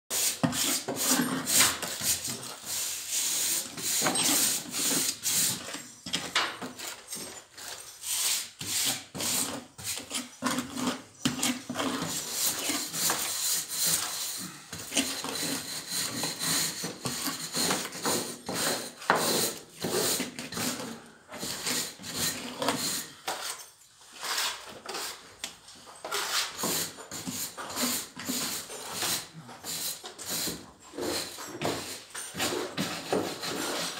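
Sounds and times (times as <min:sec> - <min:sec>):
plaster scraping and rubbing: 0:00.1 - 0:07.0, 0:07.6 - 0:25.4, 0:26.0 - 0:33.9.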